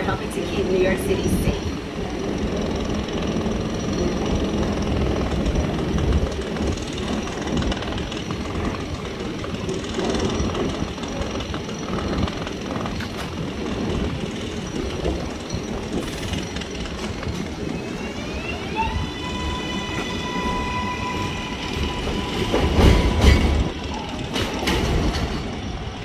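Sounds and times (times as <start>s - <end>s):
subway train rumble and rattle: 0.0s - 26.0s.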